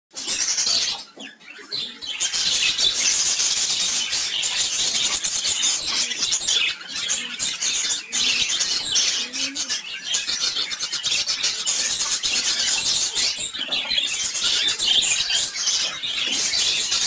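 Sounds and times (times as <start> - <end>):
budgerigars chirping and warbling: 0.1 - 17.0.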